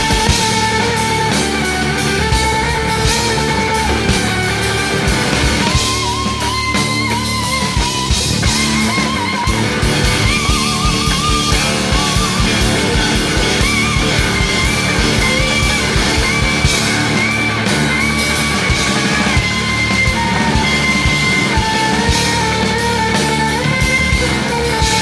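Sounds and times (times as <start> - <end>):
drum kit beat: 0.0 - 25.0
rock music: 0.0 - 25.0
wavering lead melody: 0.0 - 25.0.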